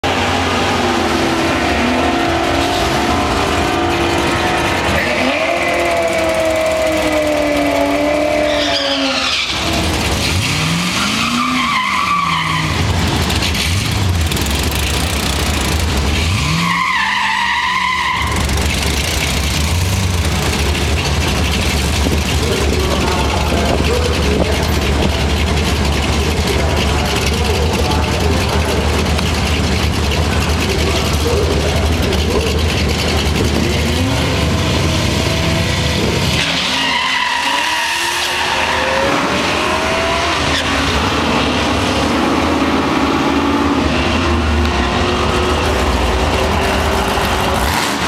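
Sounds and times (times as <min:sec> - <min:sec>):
car engines revving hard: 0:00.0 - 0:48.0
tires spinning and squealing: 0:00.1 - 0:48.0.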